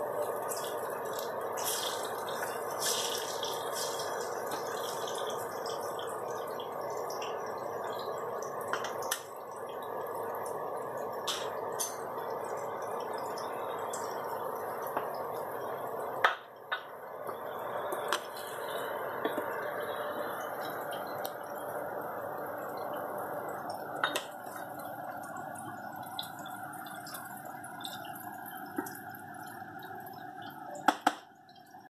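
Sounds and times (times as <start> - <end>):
stew bubbling: 0.0 - 31.9.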